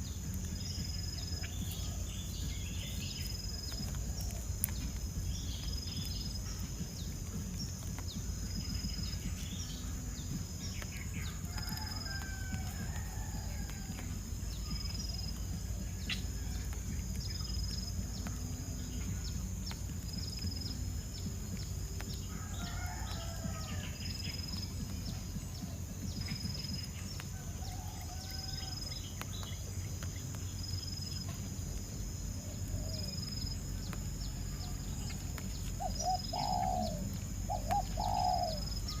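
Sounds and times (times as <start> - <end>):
bird calls: 0.0 - 39.0
constant low rumble: 0.0 - 39.0.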